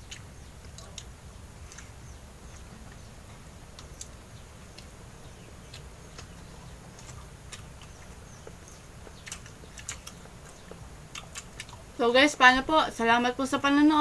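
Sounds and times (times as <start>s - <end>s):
chewing with wet mouth smacks: 0.0s - 3.1s, 3.7s - 12.0s
low steady hum: 0.0s - 14.0s.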